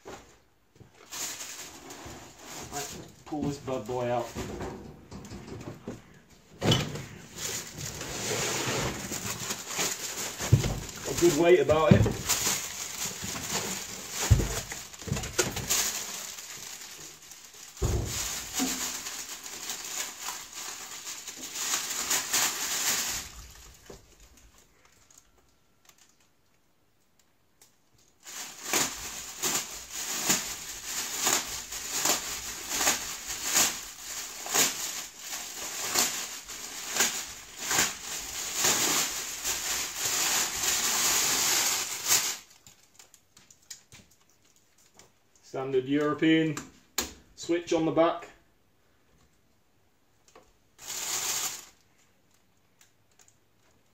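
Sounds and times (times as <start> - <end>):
plastic bag crinkling: 1.0 - 4.4, 7.0 - 26.6, 28.0 - 45.0, 50.7 - 53.9.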